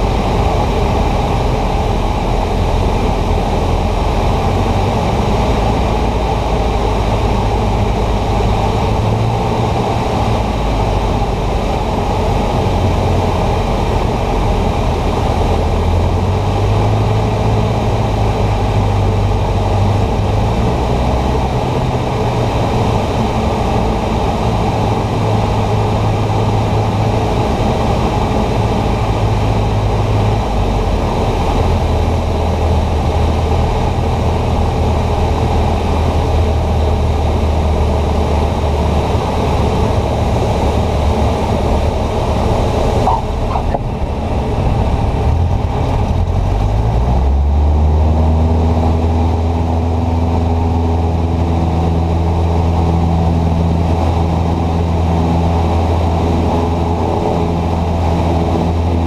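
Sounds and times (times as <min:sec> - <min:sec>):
light aircraft engine drone in cabin: 0:00.0 - 0:59.0.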